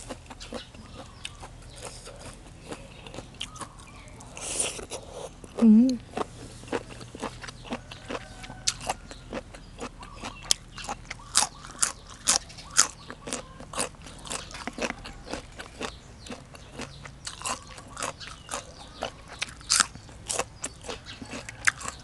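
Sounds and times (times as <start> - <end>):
person chewing crunchy food: 0.0 - 22.0.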